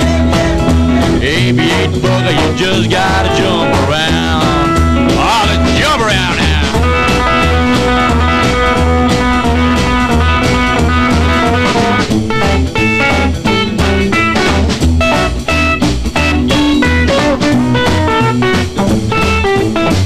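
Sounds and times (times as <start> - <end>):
bass beat: 0.0 - 20.0
drums: 0.0 - 20.0
electric guitar lead: 0.0 - 20.0.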